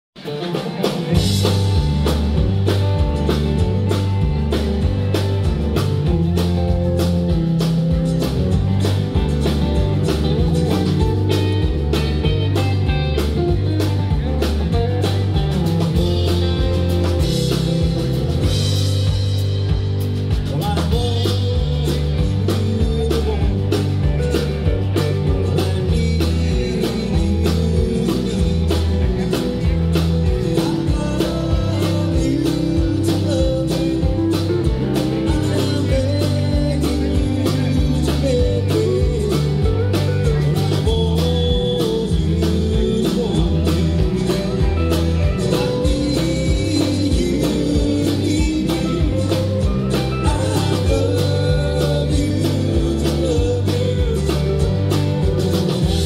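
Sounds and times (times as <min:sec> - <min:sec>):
live country rock band: 0:00.1 - 0:56.0
drum kit beat: 0:00.2 - 0:56.0
pedal steel guitar: 0:00.2 - 0:56.0.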